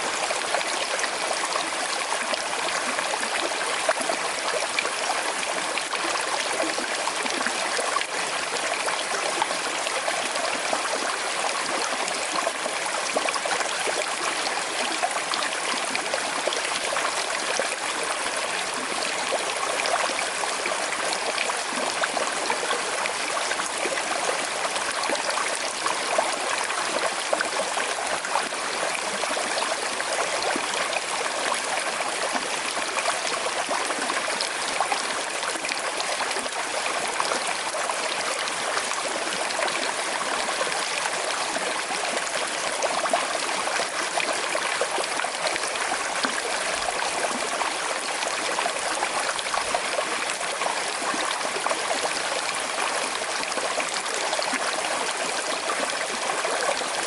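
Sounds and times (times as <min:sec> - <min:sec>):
river flowing over stones: 0:00.0 - 0:57.0.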